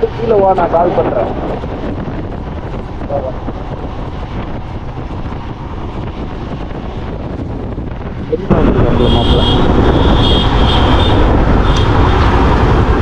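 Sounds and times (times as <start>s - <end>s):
wind rushing over microphone: 0.0s - 13.0s
motorcycle engine: 1.1s - 13.0s.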